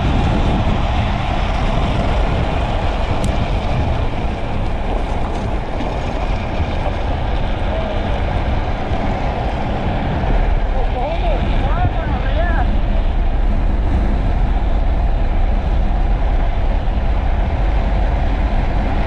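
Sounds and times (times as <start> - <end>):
wheels rolling on asphalt: 0.0 - 19.0
wind rushing over microphone: 0.0 - 19.0.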